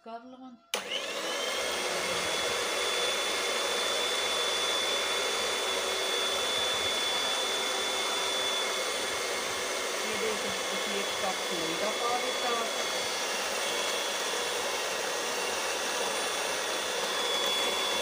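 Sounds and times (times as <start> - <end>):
electric hand mixer whisking: 0.8 - 18.0.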